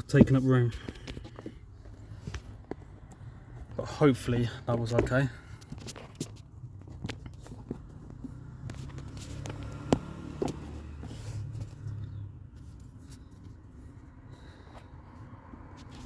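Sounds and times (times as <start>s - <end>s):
parts clicking and knocking: 0.0s - 3.9s, 4.6s - 13.6s.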